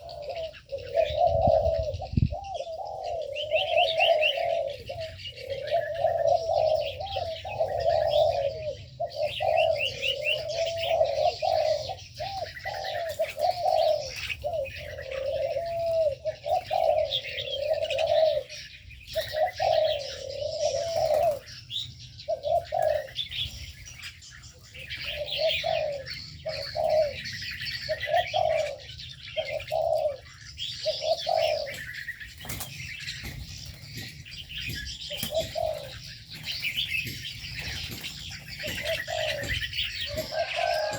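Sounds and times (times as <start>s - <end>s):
doves cooing: 0.0s - 40.9s
small birds chirping: 0.0s - 40.9s.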